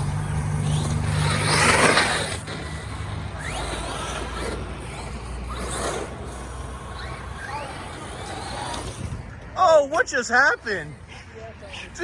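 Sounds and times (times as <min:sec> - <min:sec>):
rc truck tyres through snow: 0:00.0 - 0:11.0.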